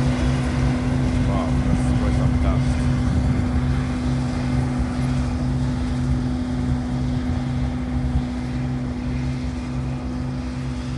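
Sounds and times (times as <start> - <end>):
harvest machinery engine hum: 0.0 - 10.9.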